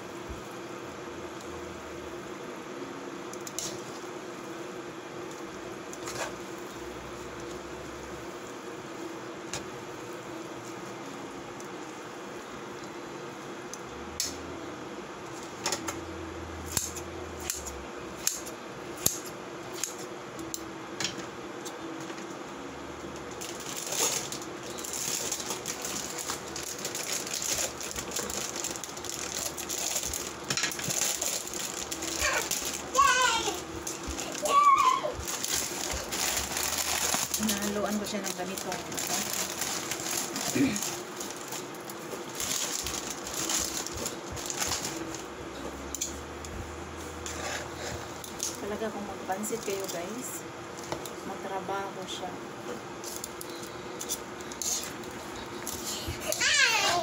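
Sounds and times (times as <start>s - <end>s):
mechanical hum with held tone: 0.0s - 57.0s.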